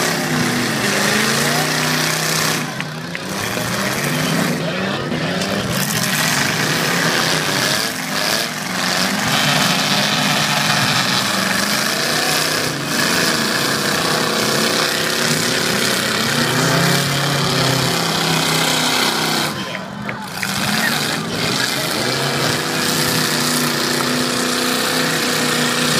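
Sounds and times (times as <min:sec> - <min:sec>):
car engines revving: 0:00.0 - 0:25.9.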